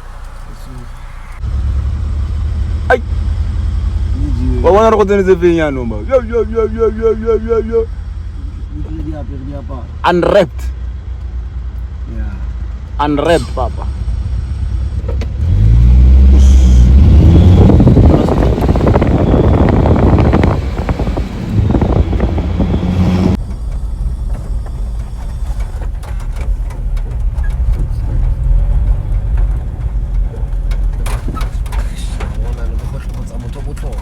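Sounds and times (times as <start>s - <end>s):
steady vehicle rumble: 0.0s - 34.0s
vehicle engine revving: 0.0s - 34.0s.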